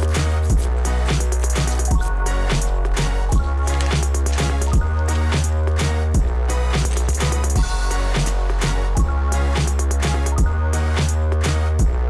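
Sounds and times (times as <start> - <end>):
steady drum beat: 0.0 - 11.2
music with heavy bass: 0.0 - 12.0.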